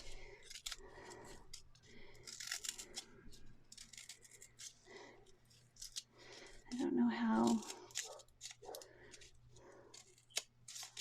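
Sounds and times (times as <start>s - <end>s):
scraper scratching soap: 0.0s - 11.0s.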